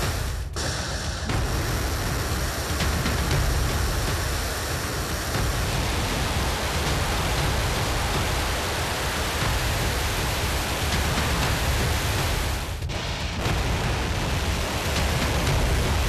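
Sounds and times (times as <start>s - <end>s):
rocket exhaust roar: 0.0s - 16.0s.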